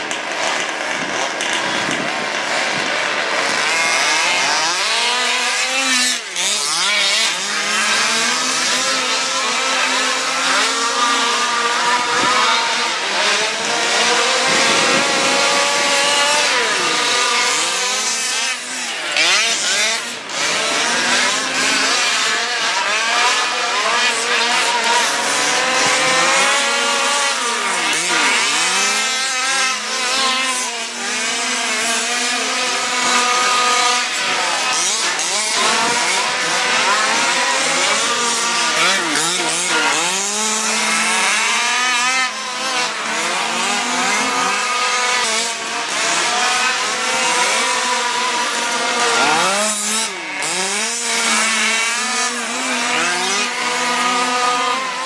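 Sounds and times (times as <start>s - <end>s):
model car engines revving: 0.0s - 55.0s.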